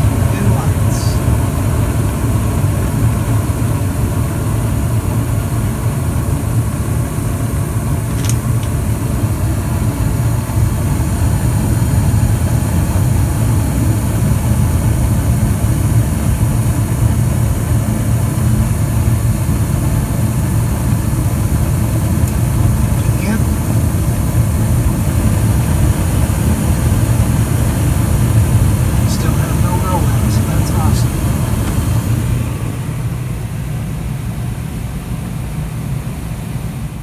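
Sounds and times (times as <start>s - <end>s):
gas furnace burners rumbling: 0.0s - 37.0s
inducer motor running: 0.0s - 37.0s.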